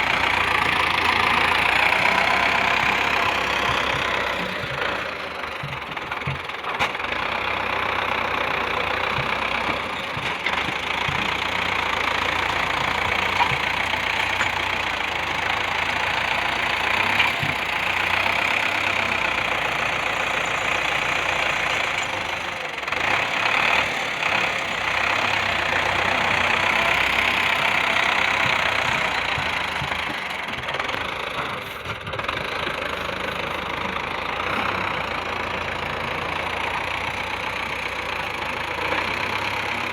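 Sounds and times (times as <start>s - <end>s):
engine-driven machine running: 0.0s - 39.9s.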